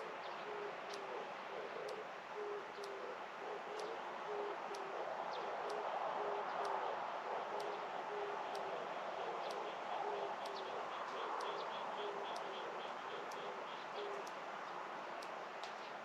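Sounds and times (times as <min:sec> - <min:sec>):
dove cooing: 0:00.0 - 0:14.3
steady background hiss: 0:00.0 - 0:16.0.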